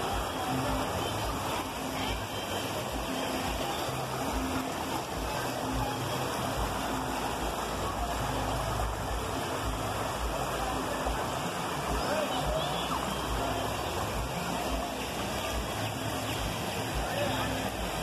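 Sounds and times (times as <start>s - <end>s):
river water flowing over rocks: 0.0s - 18.0s.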